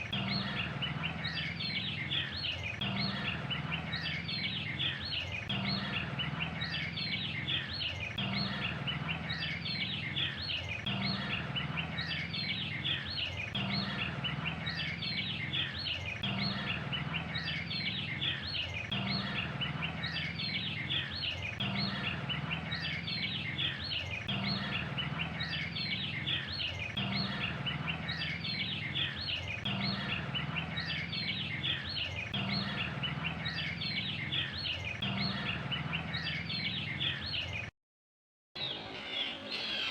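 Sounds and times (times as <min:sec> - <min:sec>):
birds chirping and twittering: 0:00.0 - 0:37.7, 0:38.6 - 0:39.9.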